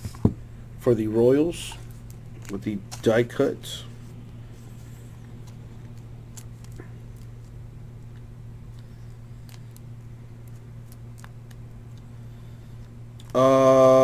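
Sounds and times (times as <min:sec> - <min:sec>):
steady low hum: 0:00.0 - 0:14.0
plastic card sleeve crinkling: 0:01.8 - 0:13.4.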